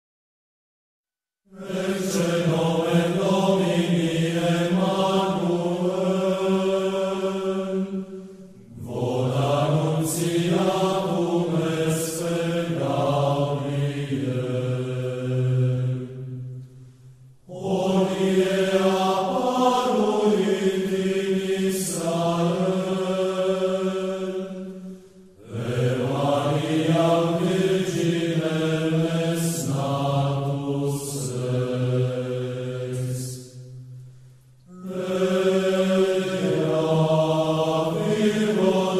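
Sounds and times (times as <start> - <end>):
men chanting a carol: 1.6 - 16.0, 17.5 - 24.6, 25.4 - 33.6, 34.7 - 38.9.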